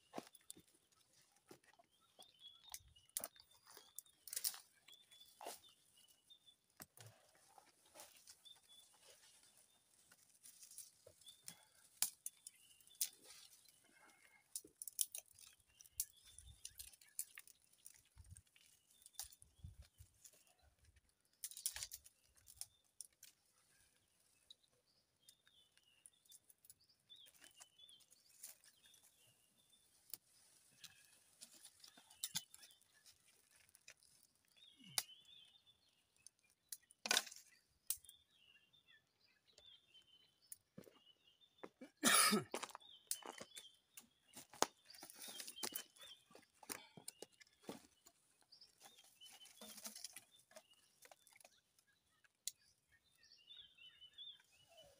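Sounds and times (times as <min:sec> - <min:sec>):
faint birds chirping: 0:00.0 - 0:54.9
dry twigs snapping and crackling: 0:00.1 - 0:24.6, 0:25.2 - 0:29.3, 0:29.9 - 0:38.2, 0:42.6 - 0:52.8.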